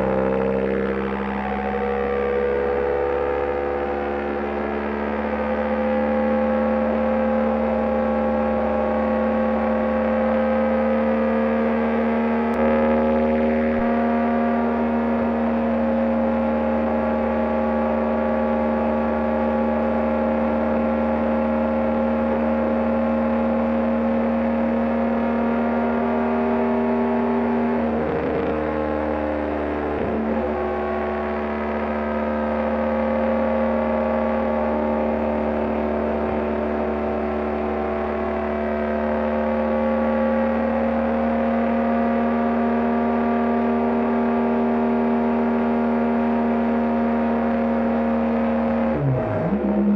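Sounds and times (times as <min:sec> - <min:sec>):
motorcycle engine cruising: 0:09.6 - 0:49.9.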